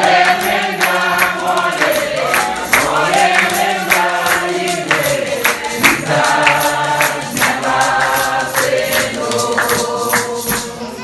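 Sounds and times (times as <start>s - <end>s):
congregation singing a hymn: 0.0s - 11.0s
sharp percussive beat: 0.0s - 11.0s.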